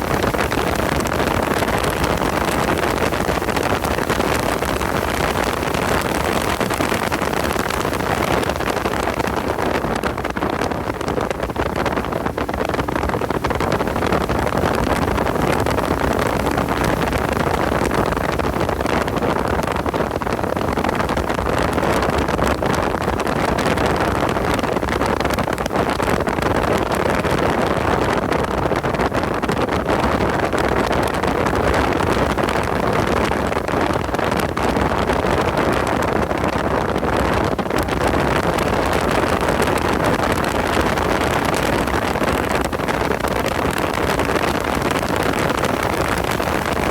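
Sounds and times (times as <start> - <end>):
wind rush on microphone: 0.0 - 46.9.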